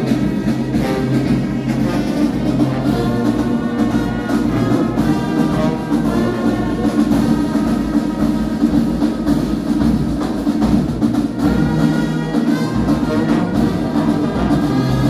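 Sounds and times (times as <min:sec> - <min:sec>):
brass band playing a hymn: 0:00.0 - 0:15.0.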